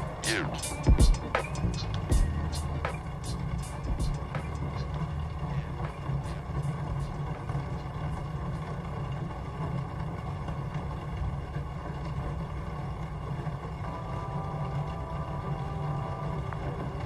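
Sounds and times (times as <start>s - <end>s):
low rumble: 0.0s - 17.0s
soft sustained music tones: 0.0s - 17.0s.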